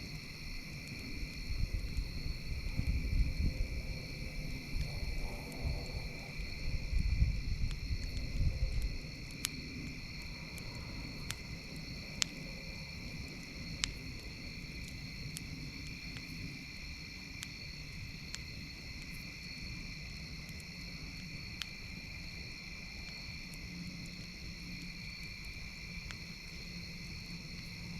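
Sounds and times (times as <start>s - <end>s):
campfire crackling: 0.0s - 27.9s
crickets chirring: 0.0s - 27.9s.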